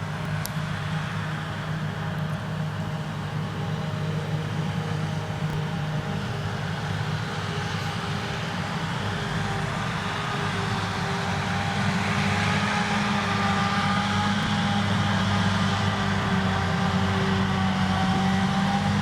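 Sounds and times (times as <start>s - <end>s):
harvester engine drone: 0.0s - 19.0s.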